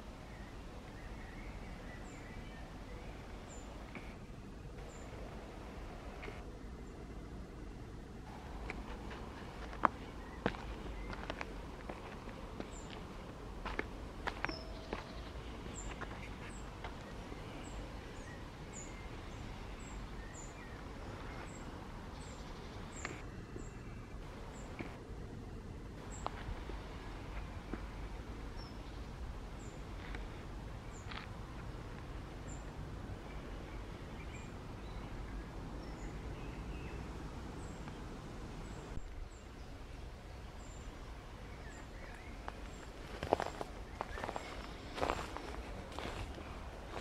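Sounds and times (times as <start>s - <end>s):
low outdoor rumble: 0.0s - 47.0s
small birds chirping: 0.0s - 47.0s.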